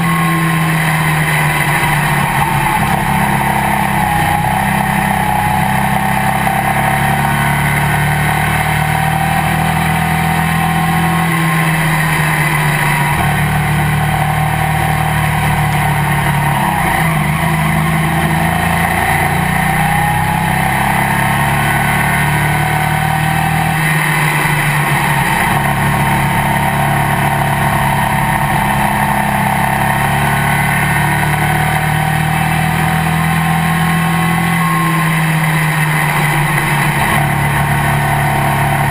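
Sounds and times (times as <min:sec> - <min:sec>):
race car engine at low revs: 0:00.0 - 0:38.9.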